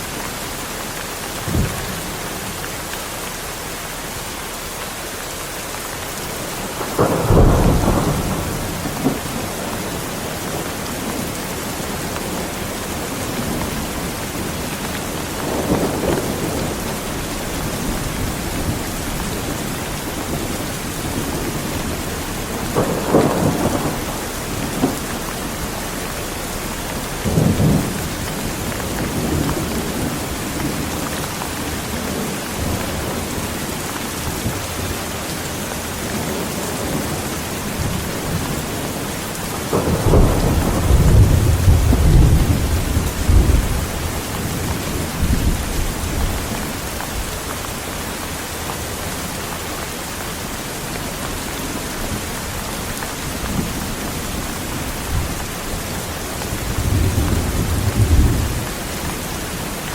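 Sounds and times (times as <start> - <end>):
heavy rain falling: 0.0 - 59.9
thunder rumbling: 6.3 - 35.2, 36.1 - 47.8, 51.0 - 59.9.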